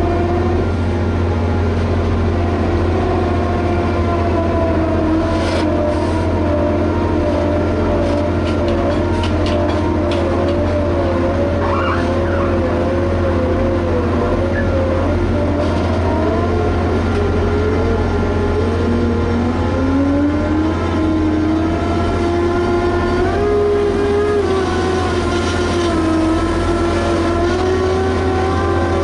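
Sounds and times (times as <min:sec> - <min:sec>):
diesel engine and machinery running: 0:00.0 - 0:29.0
whining tones wavering in pitch: 0:00.0 - 0:29.0.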